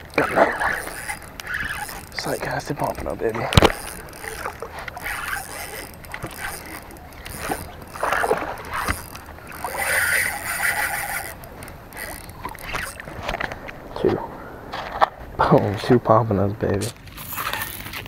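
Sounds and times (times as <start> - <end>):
fishing reel cranking: 0.0 - 13.9, 17.0 - 18.0
water lapping: 0.0 - 15.3.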